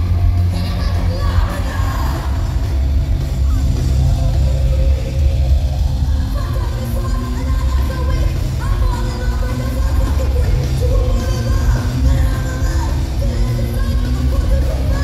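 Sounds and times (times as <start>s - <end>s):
booming bass and drums: 0.0s - 15.0s
crowd noise: 0.0s - 15.0s
rock band playing live: 0.0s - 15.0s
female lead vocal: 0.4s - 15.0s.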